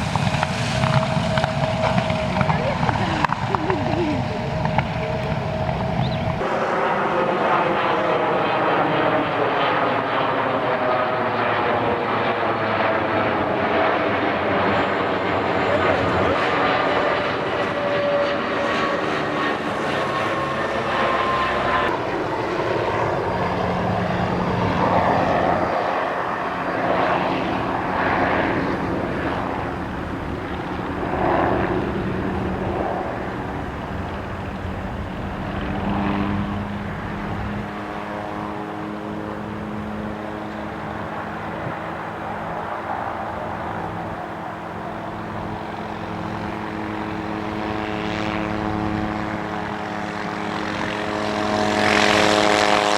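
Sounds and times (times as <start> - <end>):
propeller aircraft droning: 0.0 - 52.9.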